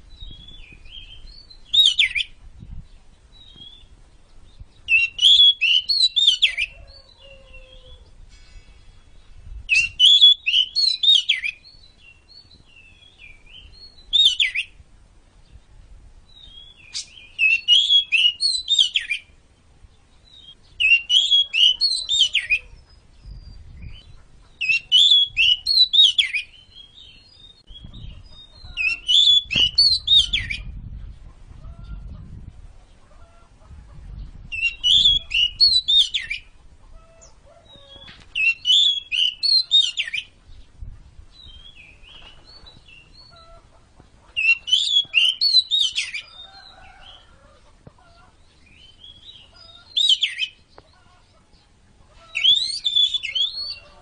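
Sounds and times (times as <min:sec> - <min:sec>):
bird singing: 0:00.0 - 0:14.8, 0:15.4 - 0:30.9, 0:34.5 - 0:47.4, 0:48.0 - 0:54.0.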